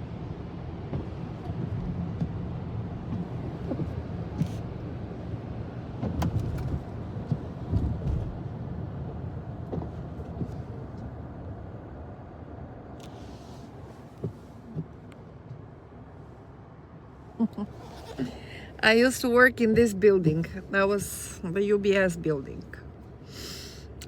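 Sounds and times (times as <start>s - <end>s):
low rumble of traffic: 0.0s - 24.0s.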